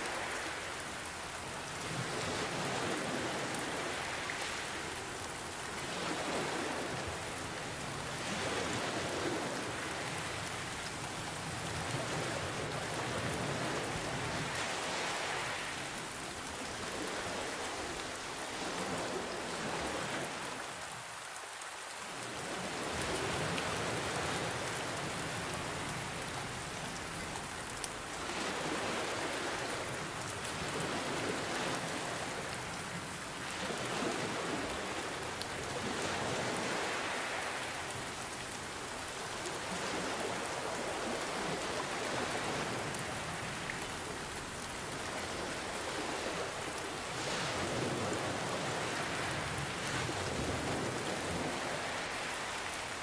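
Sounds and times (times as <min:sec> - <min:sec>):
ocean waves washing in: 0:00.0 - 0:53.0
steady rain falling: 0:00.0 - 0:53.0.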